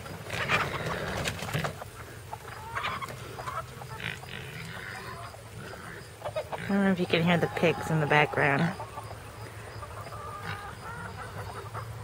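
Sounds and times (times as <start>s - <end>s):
hens clucking: 0.0s - 12.0s
pigs grunting: 0.3s - 2.2s, 2.8s - 8.9s, 9.6s - 11.8s.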